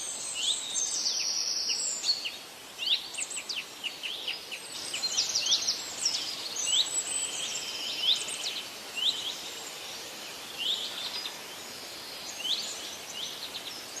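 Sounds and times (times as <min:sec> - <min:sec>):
small birds chirping: 0:00.0 - 0:14.0
steady background hiss: 0:00.0 - 0:14.0.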